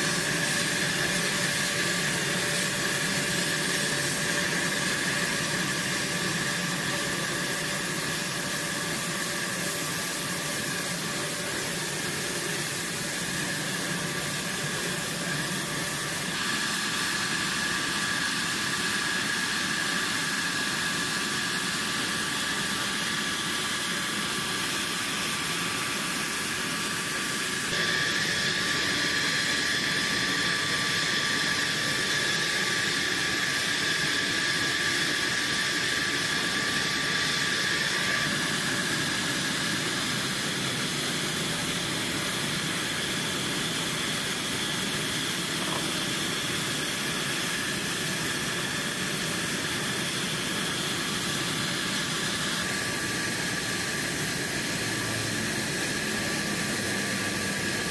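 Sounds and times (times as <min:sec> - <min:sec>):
jet engine idling: 0:00.0 - 0:57.9.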